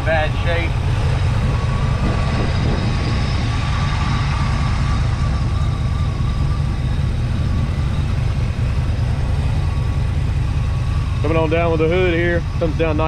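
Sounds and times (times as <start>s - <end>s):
car engine idling: 0.0s - 13.0s
faint high whine: 0.0s - 13.0s.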